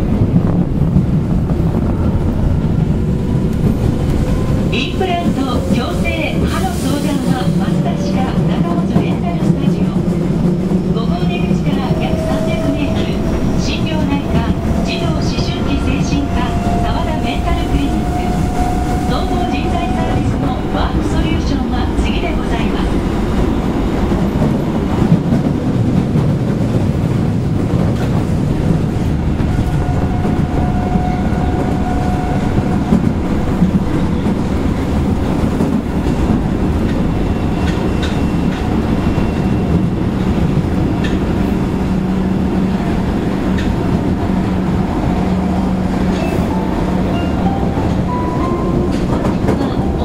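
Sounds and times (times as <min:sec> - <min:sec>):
subway train wheels rumbling on rail: 0:00.0 - 0:50.0.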